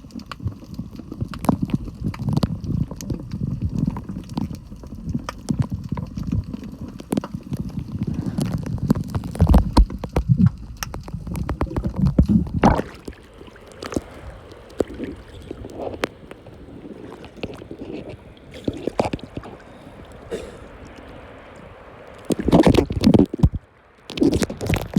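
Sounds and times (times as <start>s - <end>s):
sharp underwater clicks and knocks: 0.0s - 21.1s, 22.2s - 24.9s
underwater churning and sloshing: 0.0s - 24.9s.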